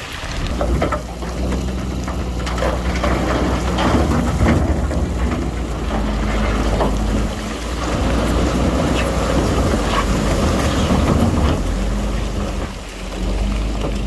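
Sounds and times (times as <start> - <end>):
clattering and crunching: 0.0 - 14.0
diesel earthmoving machine rumbling: 0.0 - 14.0.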